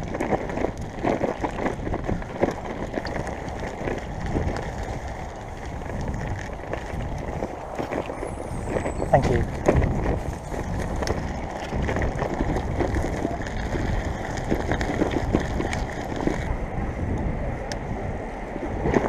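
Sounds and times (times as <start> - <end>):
bicycle tyre rumble: 0.0 - 19.0
wind rush on microphone: 0.0 - 19.0.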